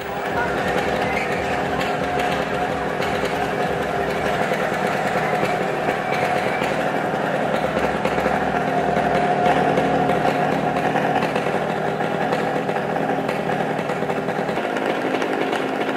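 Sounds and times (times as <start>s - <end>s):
motorcycle engines running: 0.0s - 15.9s.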